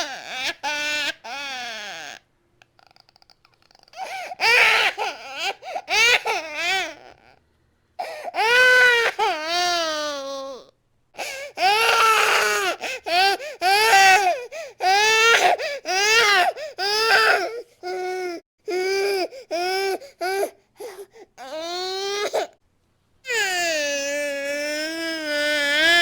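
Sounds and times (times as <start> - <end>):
infant crying: 0.0 - 2.2, 3.8 - 7.4, 8.0 - 22.6, 23.3 - 26.0.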